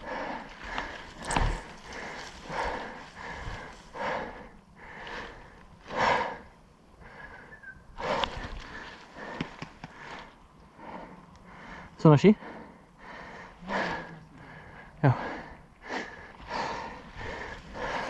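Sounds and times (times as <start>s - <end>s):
heavy breathing: 0.0s - 18.0s.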